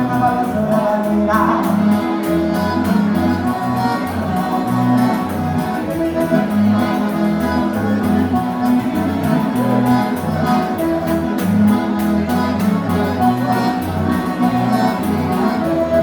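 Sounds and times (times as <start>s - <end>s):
instrumental dance music: 0.0s - 16.0s.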